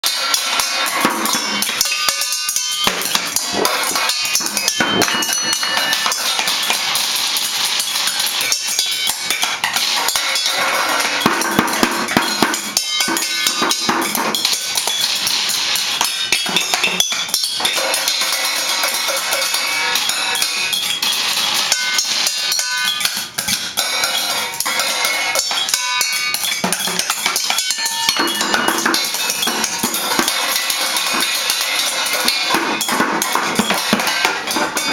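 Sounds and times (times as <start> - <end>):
drum and cymbal strikes: 0.0 - 34.9.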